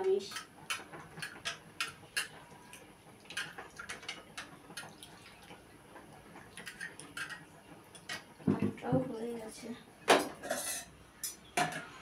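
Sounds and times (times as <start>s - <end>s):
cooking clicks and ticks: 0.0s - 12.0s.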